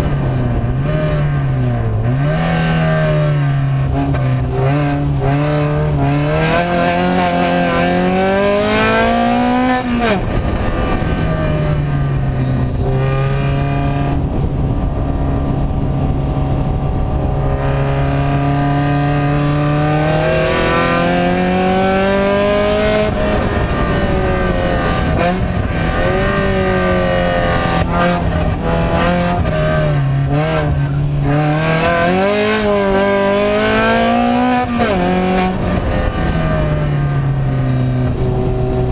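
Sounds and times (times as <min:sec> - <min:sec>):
unsilenced engine revving: 0:00.0 - 0:38.9.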